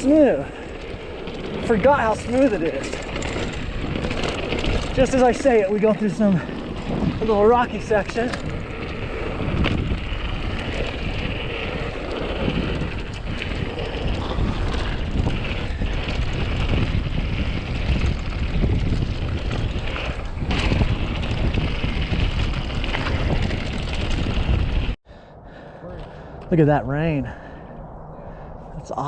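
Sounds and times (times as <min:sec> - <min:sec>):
bike rattling: 0:00.0 - 0:28.6
wind buffeting microphone: 0:00.0 - 0:29.0.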